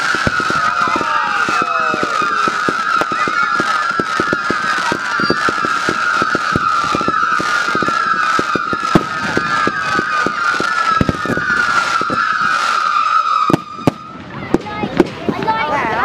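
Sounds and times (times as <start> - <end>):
firework firing thumps and bangs: 0.0 - 15.6
whistling fireworks: 0.0 - 16.0.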